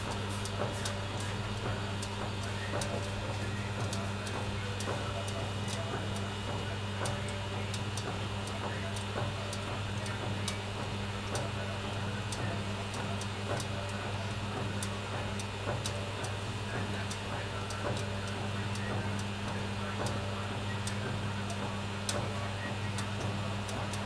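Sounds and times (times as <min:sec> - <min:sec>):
oven humming: 0:00.0 - 0:24.0.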